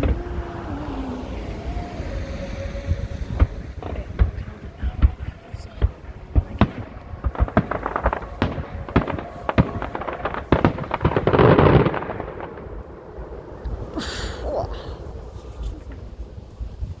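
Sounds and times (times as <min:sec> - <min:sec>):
fireworks bangs and crackles: 0:00.0 - 0:17.0
fireworks hiss: 0:00.0 - 0:17.0.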